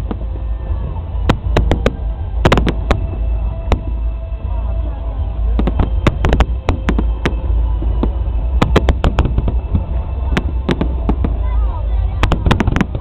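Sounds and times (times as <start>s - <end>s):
fireworks bangs and cracks: 0.0s - 4.6s, 5.4s - 13.0s
low rumble: 0.0s - 13.0s.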